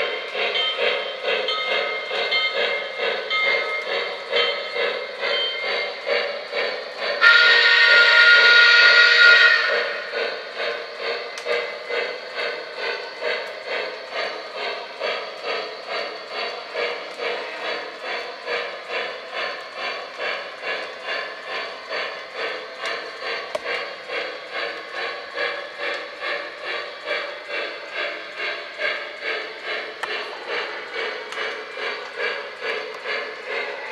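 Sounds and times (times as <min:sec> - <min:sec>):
model steam locomotive chuffing: 0:00.0 - 0:33.9
steam hissing: 0:00.0 - 0:33.9.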